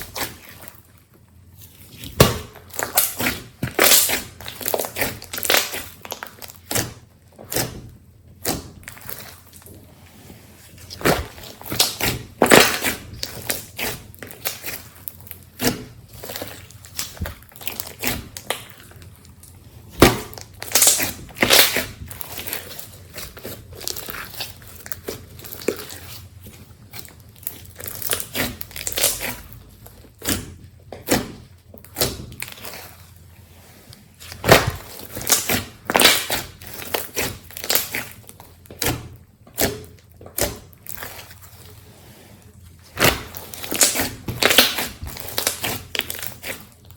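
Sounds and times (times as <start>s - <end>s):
slime squished by hand: 1.6s - 9.9s, 10.7s - 33.3s, 34.0s - 46.9s.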